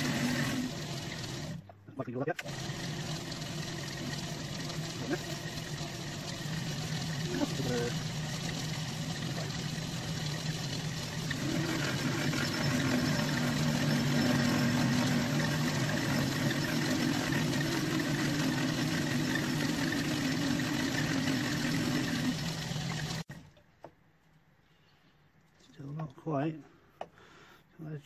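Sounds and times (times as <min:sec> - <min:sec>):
lathe tool chattering: 0:00.0 - 0:01.7, 0:02.4 - 0:23.3
lathe motor hum: 0:00.0 - 0:01.8, 0:02.4 - 0:23.4.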